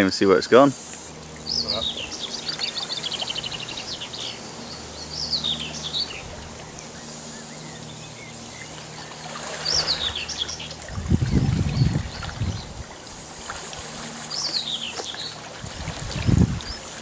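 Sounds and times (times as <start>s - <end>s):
outdoor background noise: 0.0s - 17.0s
songbirds singing: 0.0s - 17.0s.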